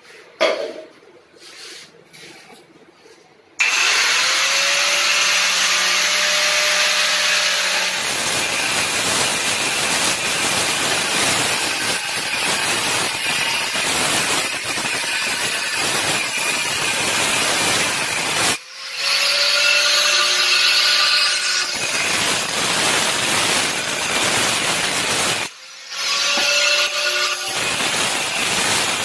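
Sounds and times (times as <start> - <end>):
grinder disc cutting marble: 3.6 - 29.0.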